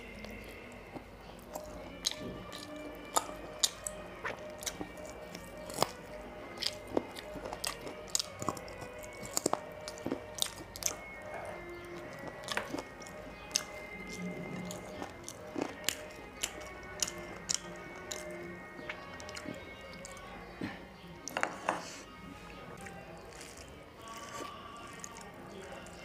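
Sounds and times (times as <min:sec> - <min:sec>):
faint background music: 0:00.0 - 0:26.0
person chewing food: 0:00.0 - 0:26.0.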